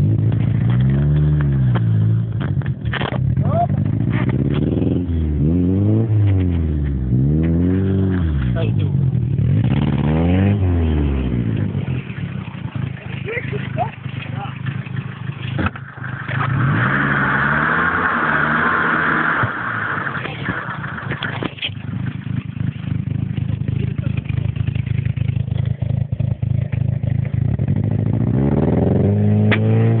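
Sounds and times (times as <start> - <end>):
small engine revving: 3.0 - 30.0.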